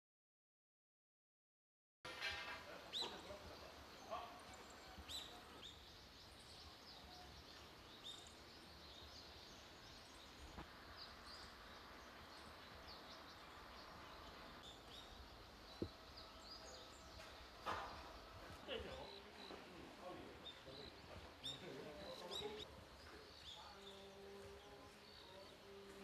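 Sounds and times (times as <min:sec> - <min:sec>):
small birds chirping: 0:02.2 - 0:26.0.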